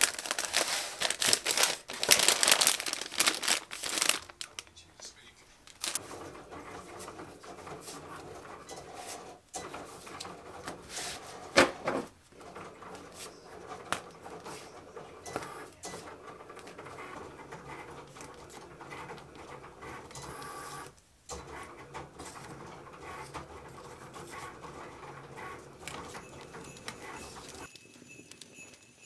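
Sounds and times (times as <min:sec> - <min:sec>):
paper sheets rustling: 0:00.0 - 0:04.8, 0:05.5 - 0:20.9, 0:21.6 - 0:27.7.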